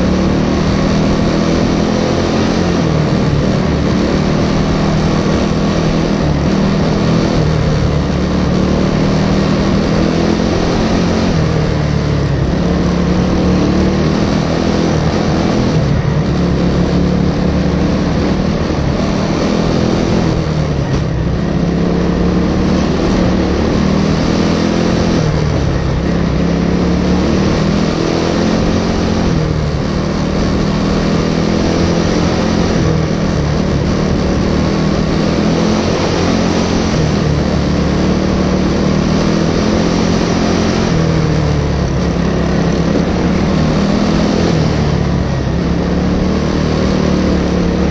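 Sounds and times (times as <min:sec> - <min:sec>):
racing engine revving: 0:00.0 - 0:47.9.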